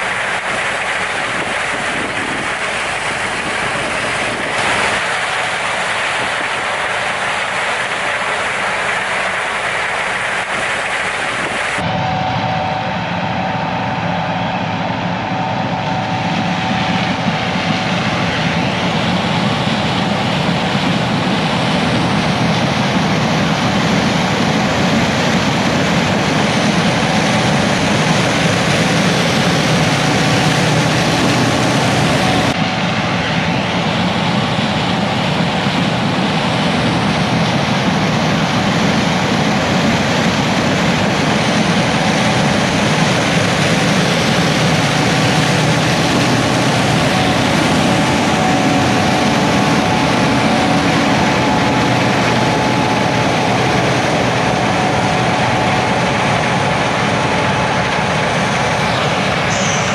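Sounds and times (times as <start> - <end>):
heavy farm machinery running: 0.0 - 59.9.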